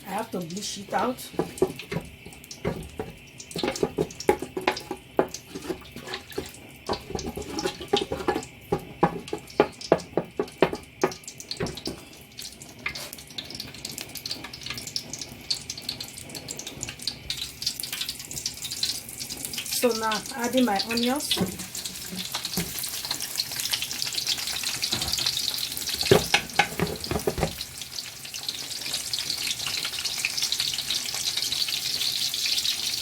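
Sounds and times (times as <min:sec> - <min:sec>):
hot oil crackling and popping: 0:00.0 - 0:33.0.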